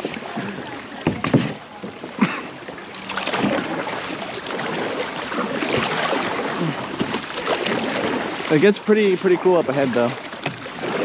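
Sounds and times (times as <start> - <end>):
paddle stroke splashes: 0.0 - 11.0
water splashing and rushing: 0.0 - 11.0.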